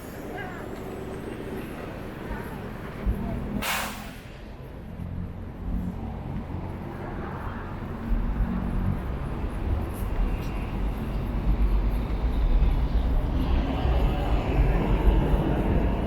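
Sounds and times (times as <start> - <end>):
street traffic rumbling: 0.0 - 16.0.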